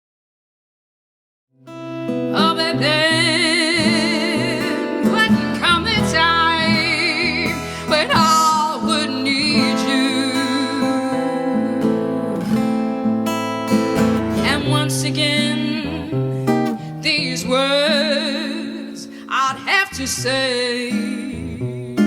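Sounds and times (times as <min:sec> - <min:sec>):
acoustic guitar: 0:01.6 - 0:22.0
woman singing with vibrato: 0:02.3 - 0:13.4, 0:14.0 - 0:22.0.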